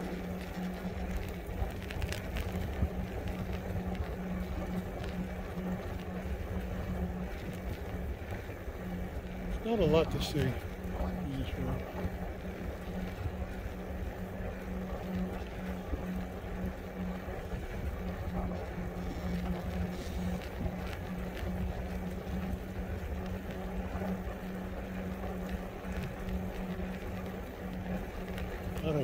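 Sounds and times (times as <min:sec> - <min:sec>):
electric motor hum: 0:00.0 - 0:29.0
wind and tyre rumble: 0:00.0 - 0:29.0.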